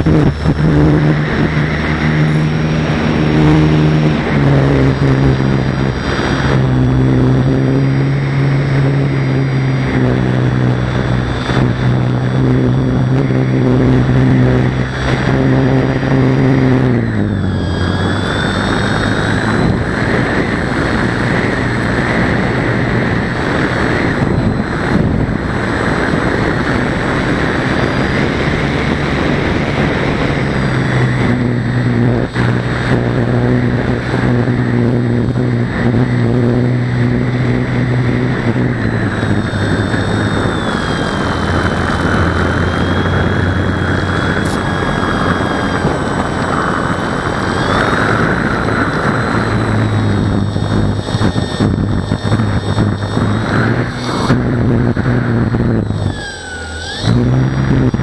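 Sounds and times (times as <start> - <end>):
model aircraft motor buzzing: 0.0 - 58.0
wind noise: 0.0 - 58.0.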